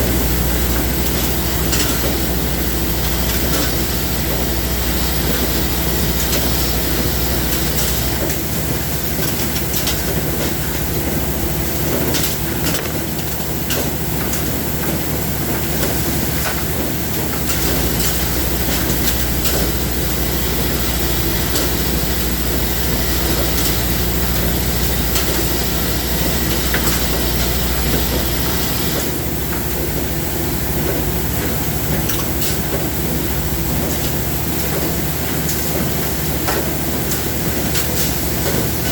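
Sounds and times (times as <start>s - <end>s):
machinery running: 0.0s - 38.9s.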